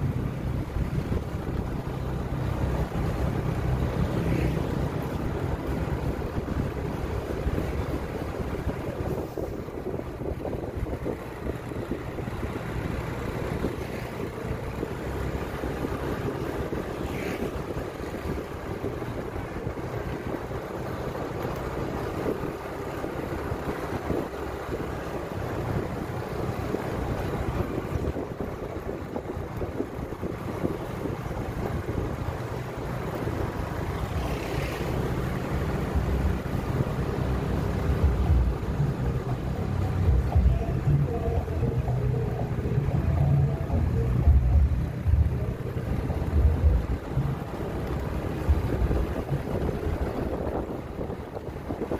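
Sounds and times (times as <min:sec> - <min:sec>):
vehicle running on road: 0:00.0 - 0:51.9
wind buffeting microphone: 0:00.0 - 0:51.9.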